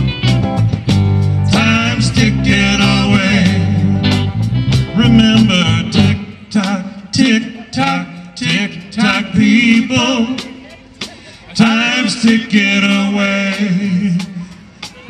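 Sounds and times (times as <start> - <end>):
drums: 0.0 - 15.0
electric guitars: 0.0 - 15.0
man singing: 1.5 - 15.0.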